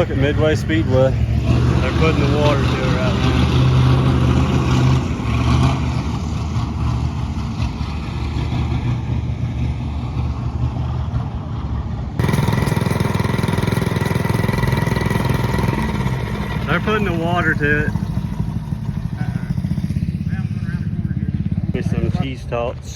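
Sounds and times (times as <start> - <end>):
vehicle engine humming: 0.0 - 22.9.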